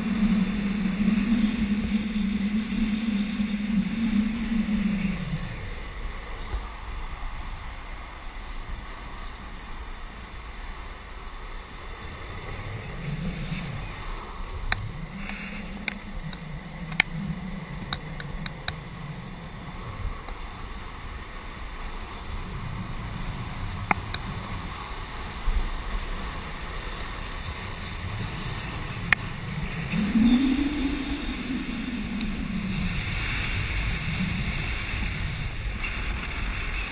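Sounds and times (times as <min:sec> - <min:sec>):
wind rushing over microphone: 0:00.0 - 0:36.9.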